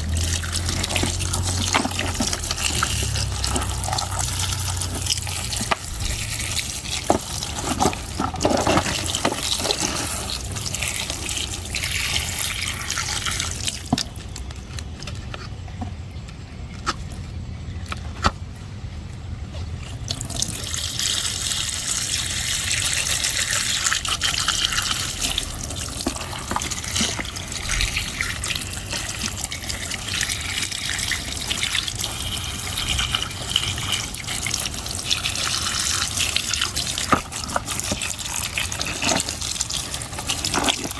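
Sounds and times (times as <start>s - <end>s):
running water splashing: 0.0s - 14.2s, 20.0s - 40.9s.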